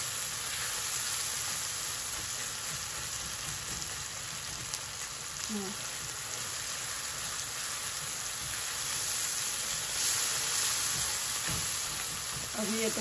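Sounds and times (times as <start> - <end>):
onions and tomatoes sizzling in oil: 0.0 - 13.0.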